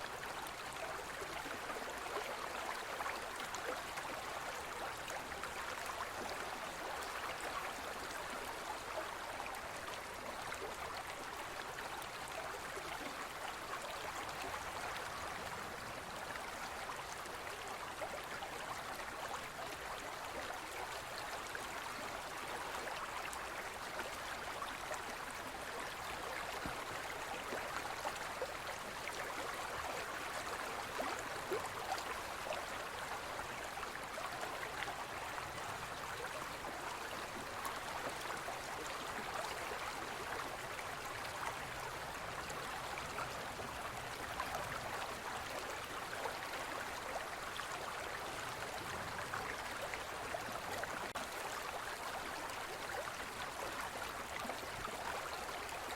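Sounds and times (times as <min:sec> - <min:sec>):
stream babbling over rocks: 0:00.0 - 0:55.9.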